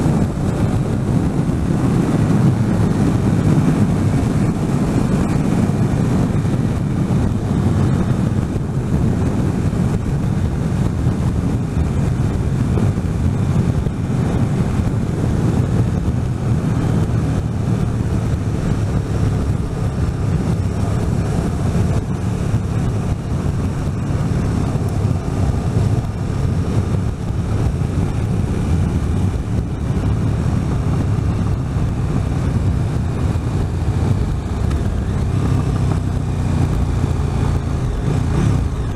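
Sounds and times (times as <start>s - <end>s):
motorcycle engine drone: 0.0s - 38.9s
wind noise on microphone: 0.0s - 38.9s.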